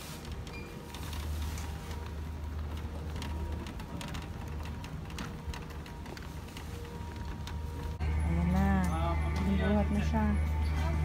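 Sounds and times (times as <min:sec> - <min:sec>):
luggage trolley wheels rattling: 0:00.0 - 0:11.0.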